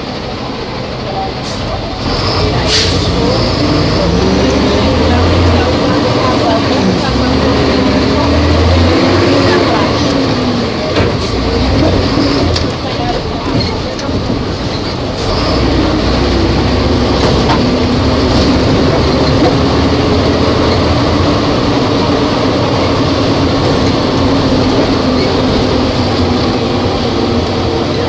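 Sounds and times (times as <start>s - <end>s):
bus engine running: 0.0s - 28.0s.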